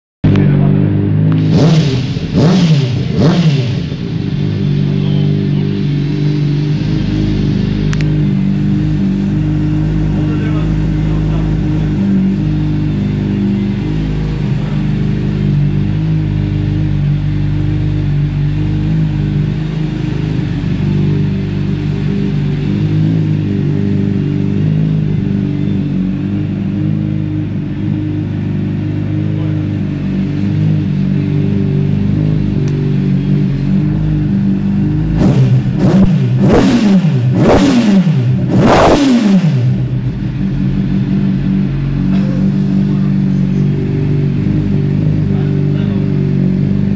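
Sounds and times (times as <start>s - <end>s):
motorcycle engine idling and revving: 0.2s - 46.9s.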